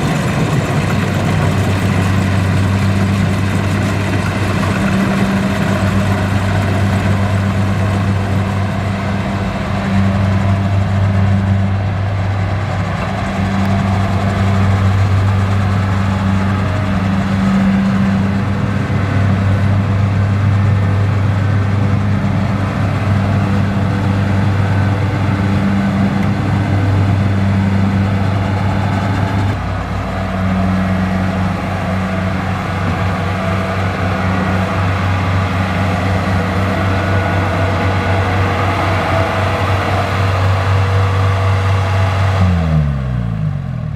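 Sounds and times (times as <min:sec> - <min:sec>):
diesel engine low drone: 0:00.0 - 0:43.9.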